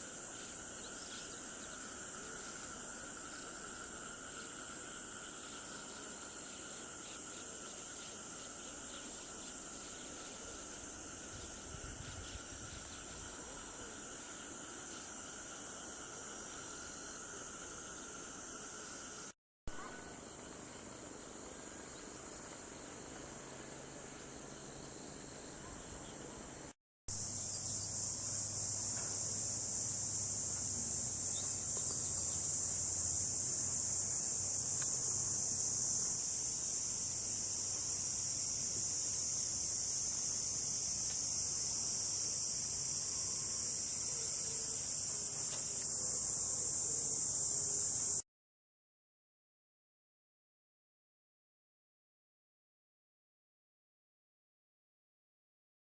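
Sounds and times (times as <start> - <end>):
insect chorus: 0.0 - 48.2.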